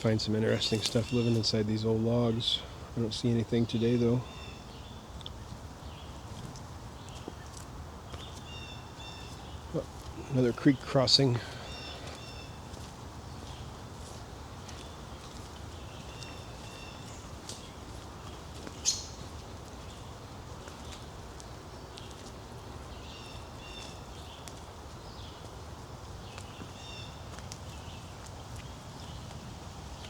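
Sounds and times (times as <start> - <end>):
low outdoor background: 0.0 - 30.0
small birds chirping: 0.0 - 30.0.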